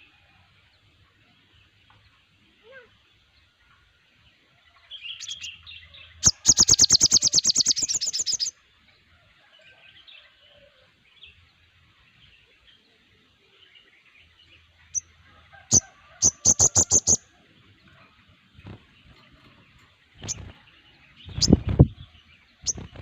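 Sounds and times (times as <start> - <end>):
songbirds chirping faintly: 0.0 - 23.0.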